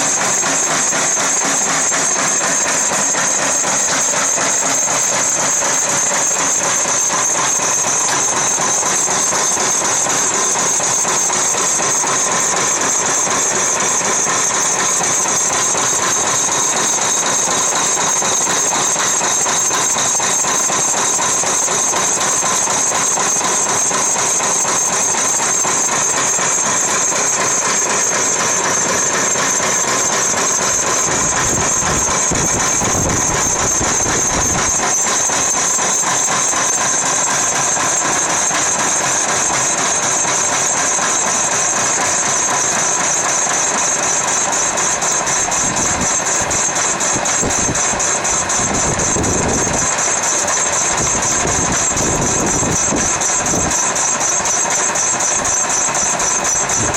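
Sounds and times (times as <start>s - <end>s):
mill spindle whine: 0.0s - 56.9s.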